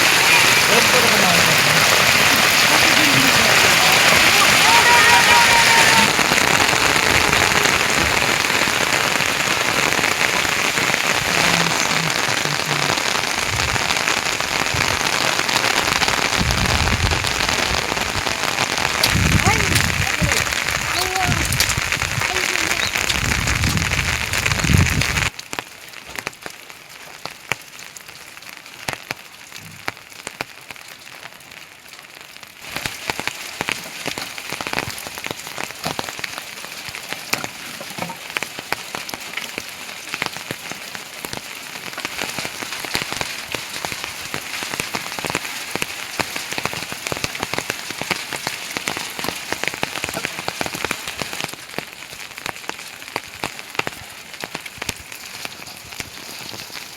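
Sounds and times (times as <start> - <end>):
heavy rain falling: 0.0 - 56.9
raindrops tapping on a surface: 0.0 - 56.9.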